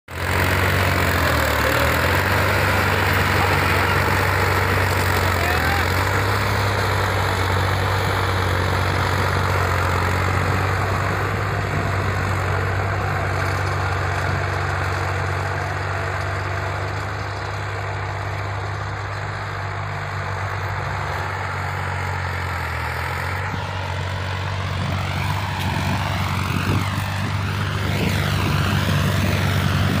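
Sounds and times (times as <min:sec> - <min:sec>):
tractor diesel engine hum: 0:00.1 - 0:30.0.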